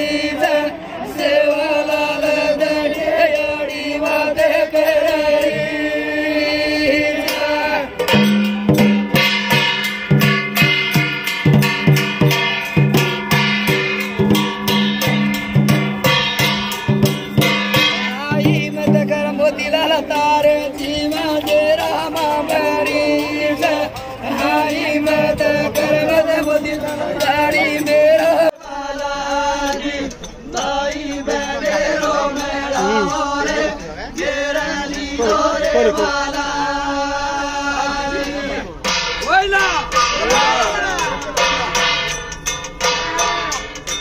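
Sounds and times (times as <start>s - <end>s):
folk devotional song: 0.0s - 42.5s.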